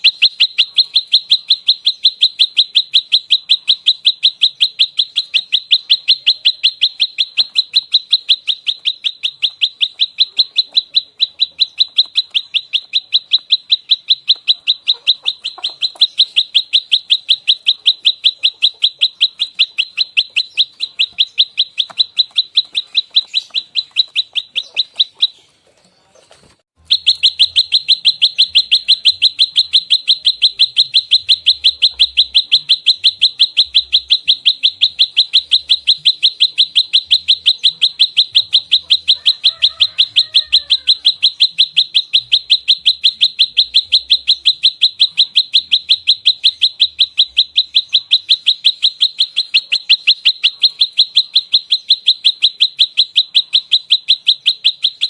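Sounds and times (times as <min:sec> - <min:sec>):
bird giving sharp high chirps: 0:00.0 - 0:25.6, 0:26.8 - 0:55.0.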